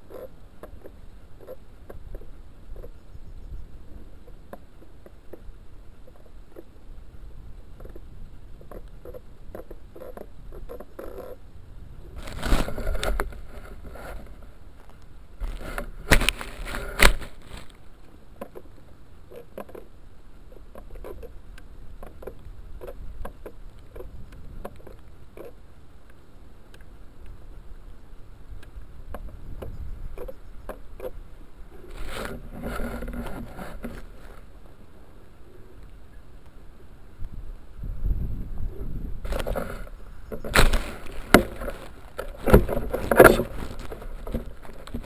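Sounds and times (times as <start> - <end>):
wind rumbling on microphone: 0.0 - 19.0, 20.0 - 26.0, 26.9 - 45.0.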